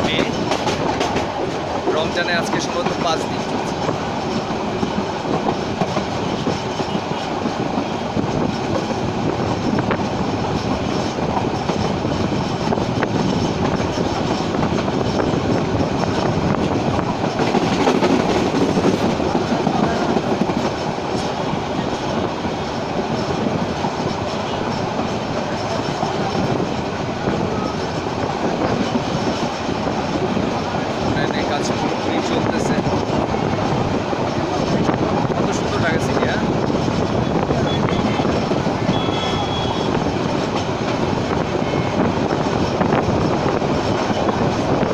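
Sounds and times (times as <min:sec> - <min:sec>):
train wheels on rails: 0:00.0 - 0:44.9.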